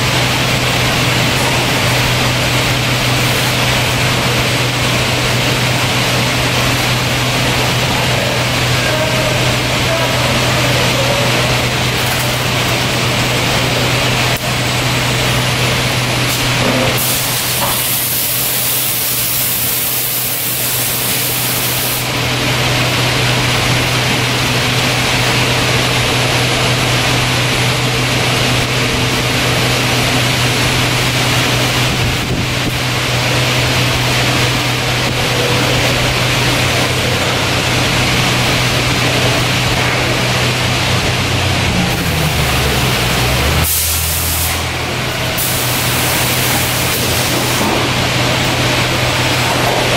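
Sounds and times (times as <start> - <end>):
machinery running with hum: 0.0 - 49.9.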